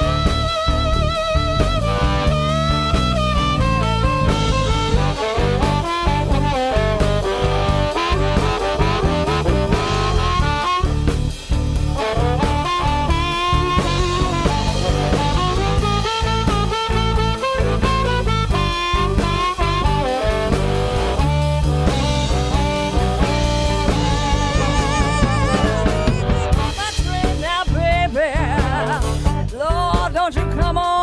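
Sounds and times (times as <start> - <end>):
lead instrument solo: 0.0 - 29.3
bass: 0.0 - 31.0
drum kit steady beat: 0.0 - 31.0.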